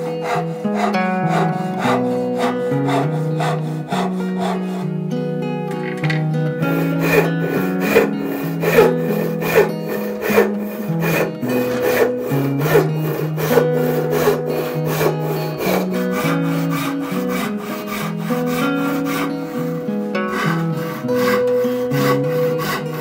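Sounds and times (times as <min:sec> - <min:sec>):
hand saw rasping through wood: 0:00.0 - 0:05.0, 0:06.6 - 0:23.0.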